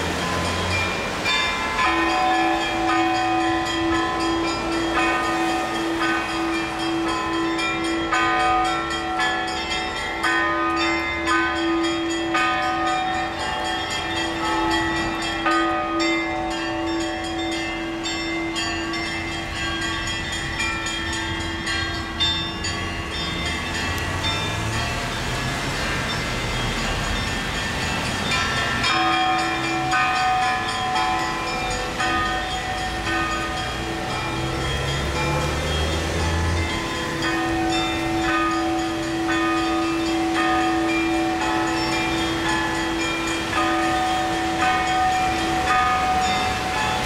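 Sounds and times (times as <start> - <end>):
church bells ringing: 0.0 - 47.0
street traffic rumbling: 0.0 - 47.0.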